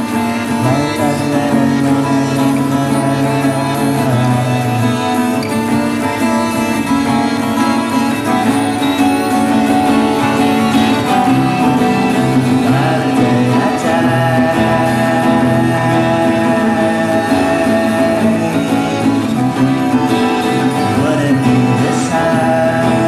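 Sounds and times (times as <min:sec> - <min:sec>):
acoustic guitars playing folk song: 0:00.0 - 0:23.0
person singing: 0:00.0 - 0:23.0.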